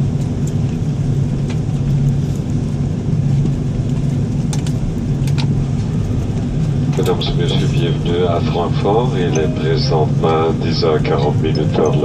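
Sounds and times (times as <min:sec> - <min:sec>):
airliner rolling rumble in cabin: 0:00.0 - 0:12.0.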